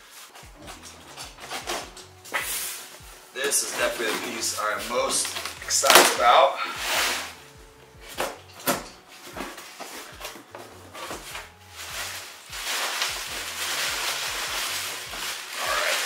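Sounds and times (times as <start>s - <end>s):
packing paper rustling: 0.0s - 7.5s, 8.1s - 16.0s.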